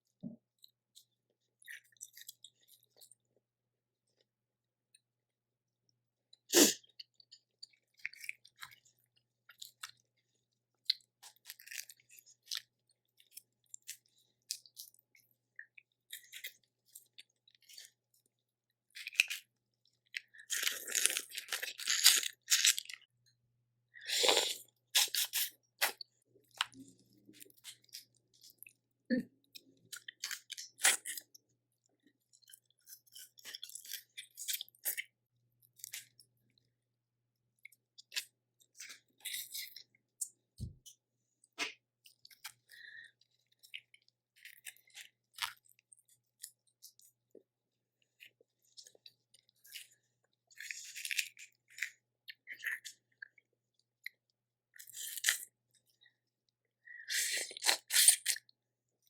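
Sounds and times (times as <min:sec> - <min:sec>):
chewing and crunching: 0:00.1 - 0:03.4, 0:06.4 - 0:23.3, 0:24.0 - 0:36.7, 0:37.6 - 0:59.0.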